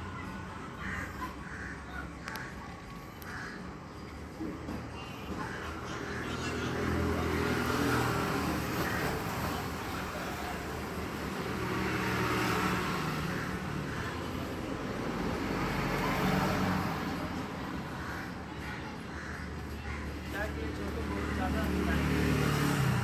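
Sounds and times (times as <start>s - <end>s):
road traffic engines: 0.0s - 23.0s.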